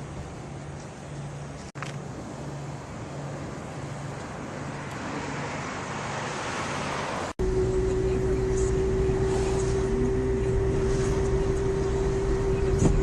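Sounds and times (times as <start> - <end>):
low engine hum: 0.0 - 13.0
passing vehicle road noise: 0.0 - 13.0.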